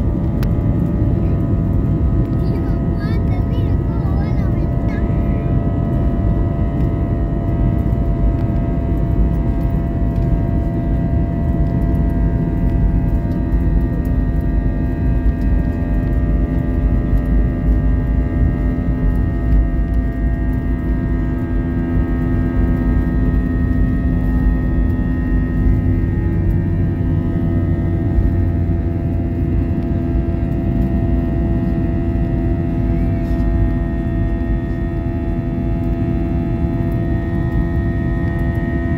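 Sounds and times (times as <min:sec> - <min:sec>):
jet engines roaring at takeoff: 0:00.0 - 0:38.9.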